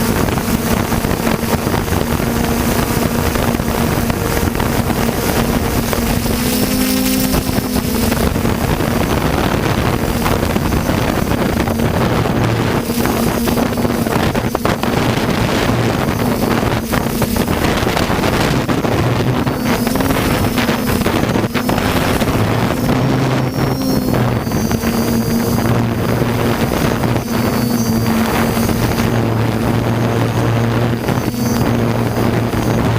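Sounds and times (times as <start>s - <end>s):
drone motors humming and whining: 0.0s - 32.9s
wind noise on microphone: 0.0s - 32.9s.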